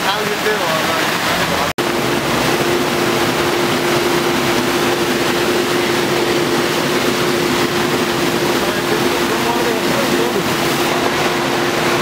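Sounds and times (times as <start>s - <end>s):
floodwater rushing down gully: 0.0s - 12.0s
steady hum: 1.2s - 12.0s.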